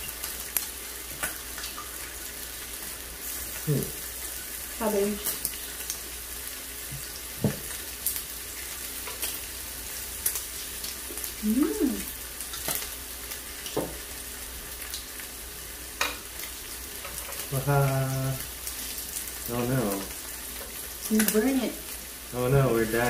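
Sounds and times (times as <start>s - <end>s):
meat sizzling on grill: 0.0s - 23.0s.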